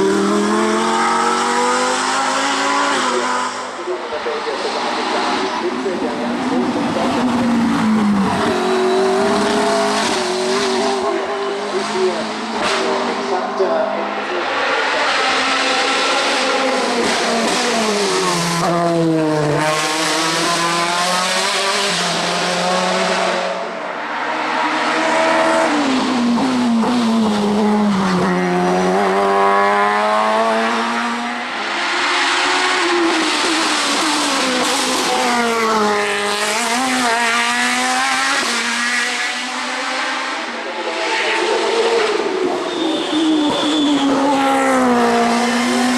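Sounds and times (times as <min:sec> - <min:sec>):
racing car engines at full throttle: 0:00.0 - 0:45.9.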